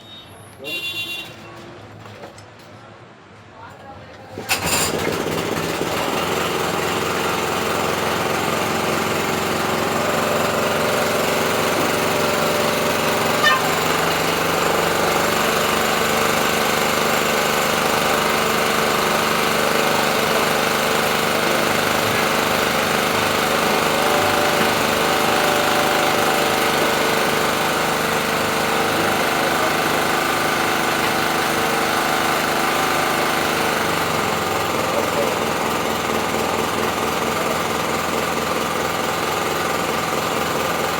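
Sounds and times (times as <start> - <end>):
brush cutter engine running: 4.6 - 40.9.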